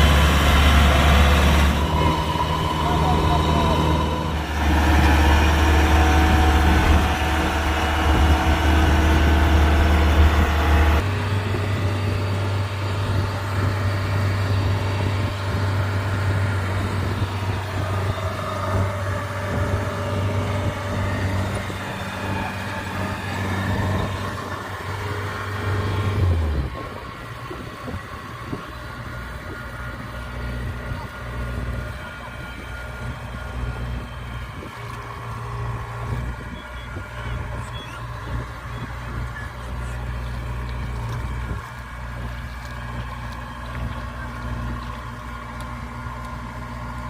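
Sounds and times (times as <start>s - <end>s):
combine harvester diesel engine: 0.0s - 47.0s.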